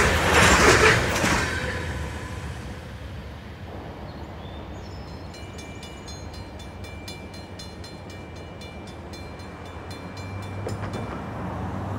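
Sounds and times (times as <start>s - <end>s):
diesel locomotive rumble: 0.0s - 3.9s, 4.6s - 11.9s.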